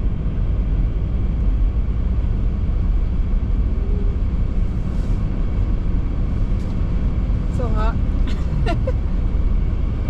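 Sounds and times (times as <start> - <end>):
road and tyre rumble in car cabin: 0.0 - 10.0.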